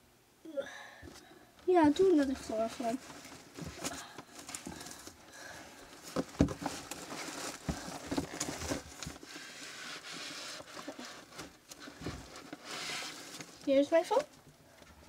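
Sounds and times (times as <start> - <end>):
rummaging through plastic containers: 1.1 - 14.3.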